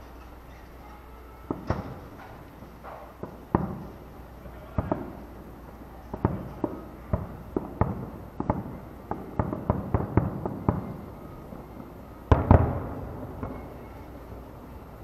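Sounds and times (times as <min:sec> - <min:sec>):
distant fireworks bangs: 0:00.3 - 0:15.0.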